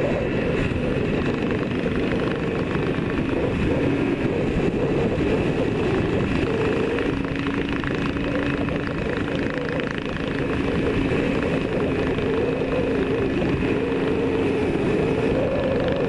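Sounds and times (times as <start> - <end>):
motorcycle engine running steadily: 0.0 - 16.0
wind rush over microphone: 0.0 - 16.0.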